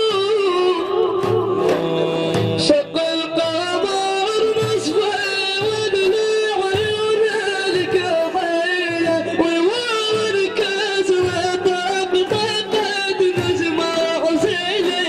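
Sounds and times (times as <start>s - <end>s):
low drum beats: 0.9s - 15.0s.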